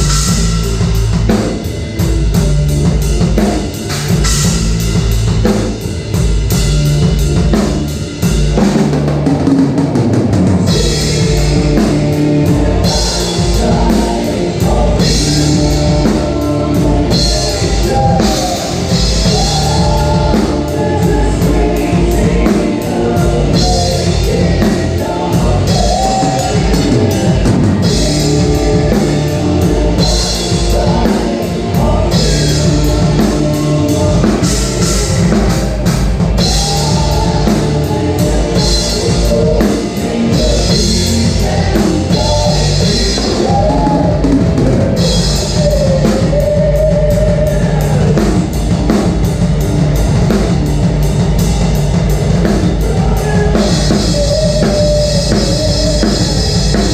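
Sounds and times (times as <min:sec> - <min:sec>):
rock band playing: 0:00.0 - 0:56.9.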